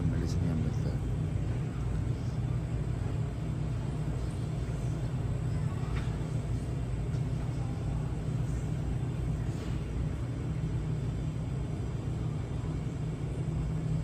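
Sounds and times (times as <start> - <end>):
shop background rumble: 0.0 - 14.0.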